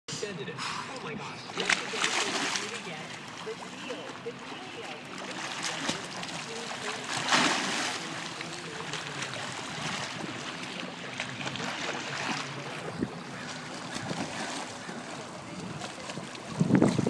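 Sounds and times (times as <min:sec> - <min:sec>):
pool water splashing: 0:00.2 - 0:17.0.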